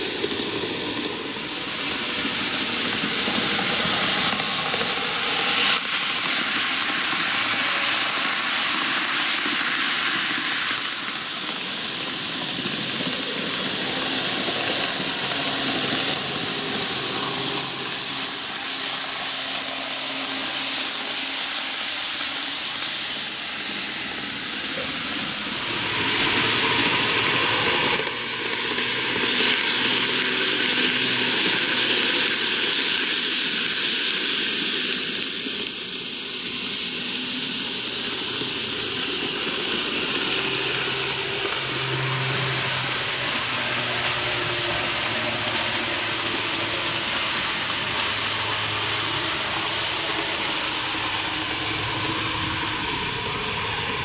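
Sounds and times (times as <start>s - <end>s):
model train wheels rumbling on rail: 0.0s - 54.0s.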